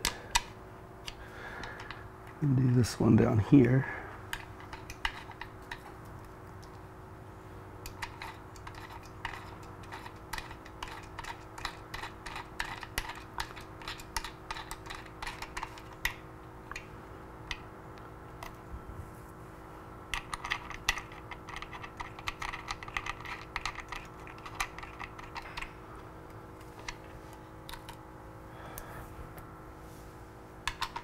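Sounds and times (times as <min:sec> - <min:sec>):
faint hum: 0:00.0 - 0:31.0.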